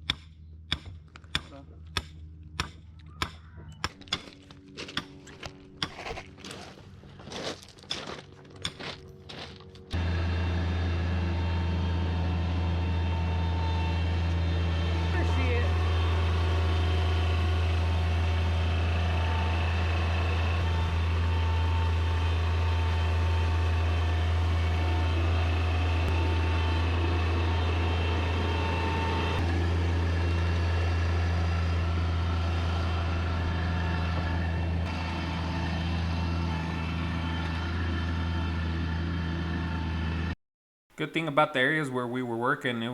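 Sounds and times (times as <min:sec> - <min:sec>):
heavy engine humming: 0:00.0 - 0:40.4.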